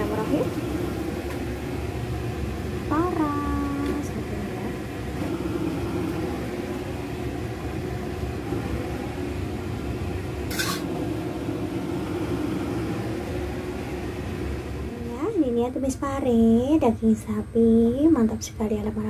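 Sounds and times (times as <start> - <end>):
machine hum: 0.0 - 17.3.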